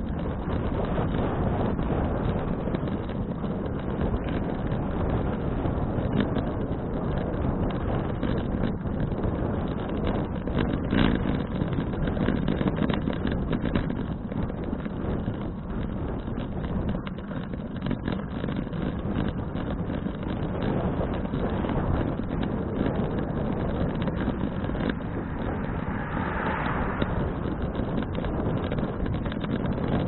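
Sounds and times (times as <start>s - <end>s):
scattered crackles: 0.0s - 30.0s
wind buffeting microphone: 0.0s - 30.0s.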